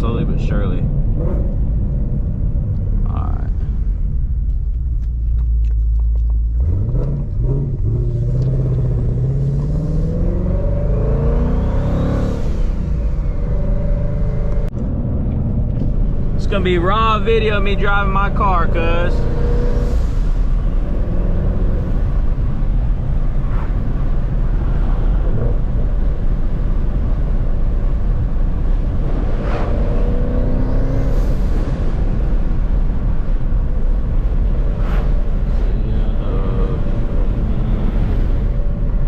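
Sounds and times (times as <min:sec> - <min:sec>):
car engine rumble while driving: 0:00.0 - 0:39.0.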